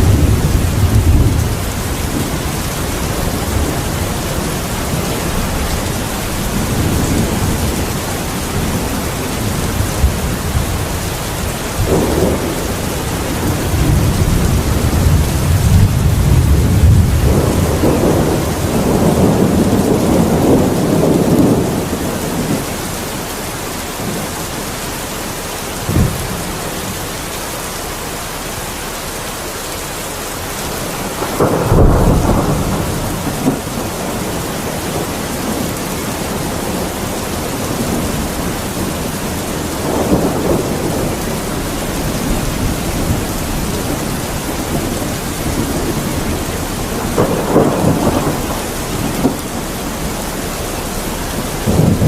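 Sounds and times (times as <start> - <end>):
thunder rumbling and cracking: 0.0 - 27.3, 30.3 - 52.0
steady rain: 0.0 - 52.0.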